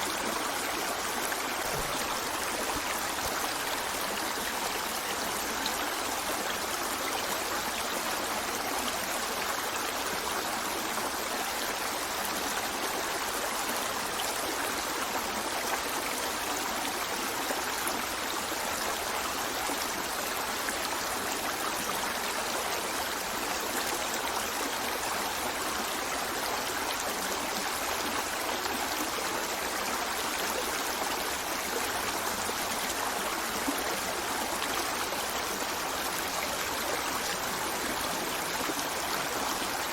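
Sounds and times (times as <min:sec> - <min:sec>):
forest stream running over rocks: 0:00.0 - 0:39.9.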